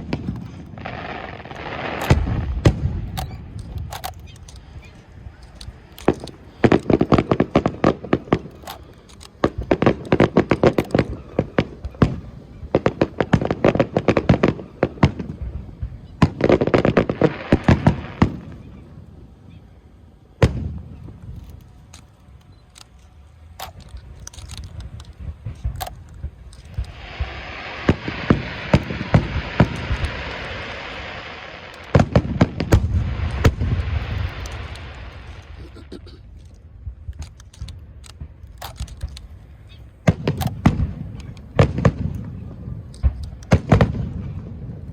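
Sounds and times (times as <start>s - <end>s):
fireworks bangs and crackles: 0.0s - 19.6s, 20.3s - 22.7s, 23.6s - 44.9s.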